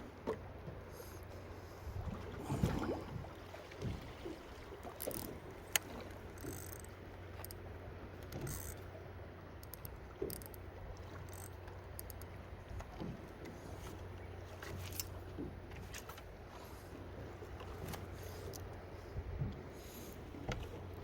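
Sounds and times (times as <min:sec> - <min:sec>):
low boat hum: 0:00.0 - 0:21.0.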